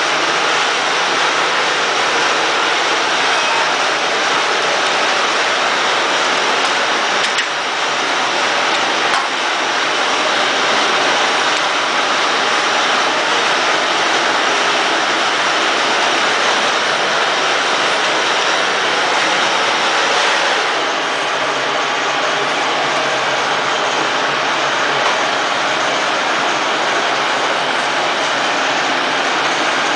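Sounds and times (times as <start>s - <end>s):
loud machine hiss: 0.0s - 29.9s.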